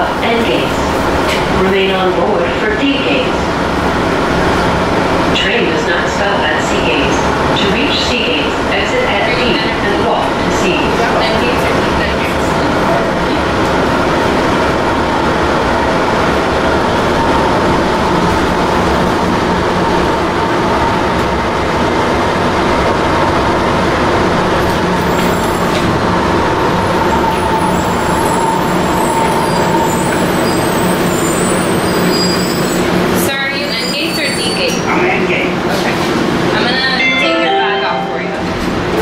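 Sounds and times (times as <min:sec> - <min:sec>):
tram wheels rumbling: 0:00.0 - 0:37.1, 0:38.2 - 0:39.0.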